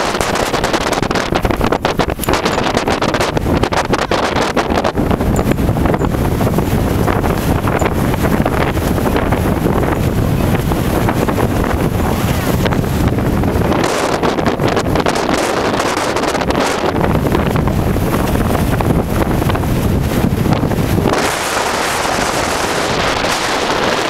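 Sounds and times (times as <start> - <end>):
blizzard wind buffeting microphone: 0.0 - 24.0.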